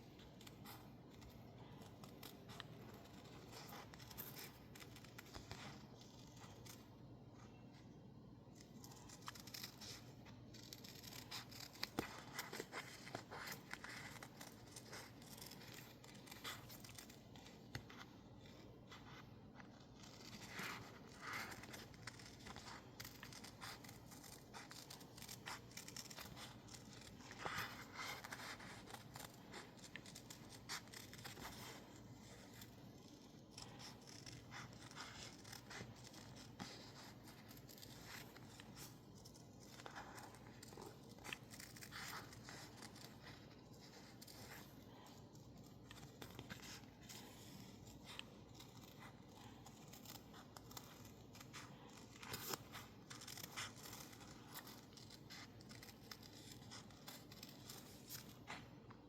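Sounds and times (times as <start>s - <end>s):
scissors snipping paper: 0.0s - 7.1s, 8.4s - 59.0s
paper rustling: 8.6s - 59.0s.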